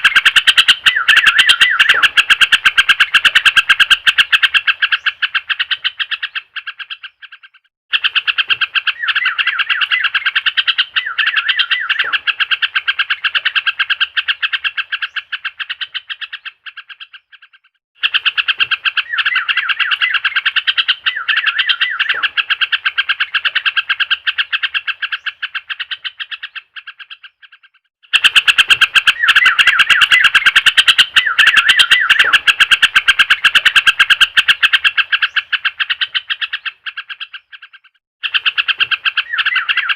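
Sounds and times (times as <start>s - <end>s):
pulsed chirping bird trills: 0.0s - 39.9s.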